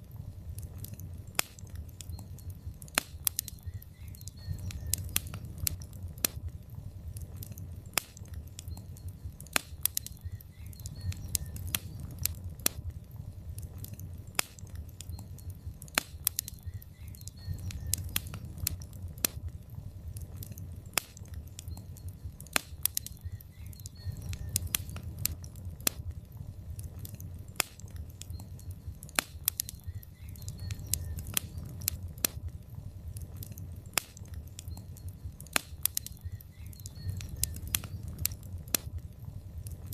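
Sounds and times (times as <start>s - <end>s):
burning wood crackling and popping: 0.0s - 39.9s
flames rumbling: 0.0s - 39.9s.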